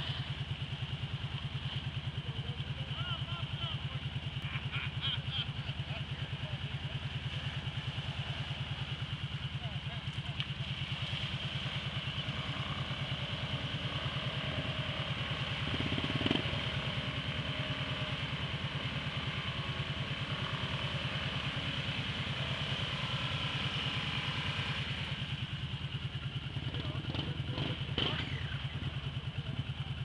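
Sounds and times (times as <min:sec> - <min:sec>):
atv engine idling: 0:00.0 - 0:30.0.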